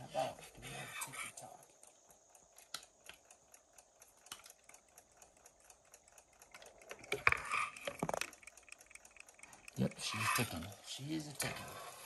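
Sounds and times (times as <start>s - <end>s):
alarm clock ticking: 0.0s - 12.0s.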